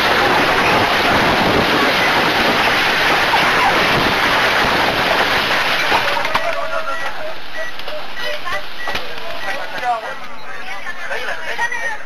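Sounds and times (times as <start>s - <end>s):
loud steady rushing noise: 0.0s - 10.2s.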